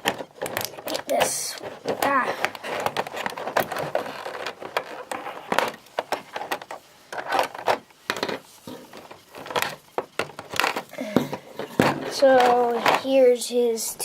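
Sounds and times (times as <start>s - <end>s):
plastic packaging crackling: 0.0s - 13.3s.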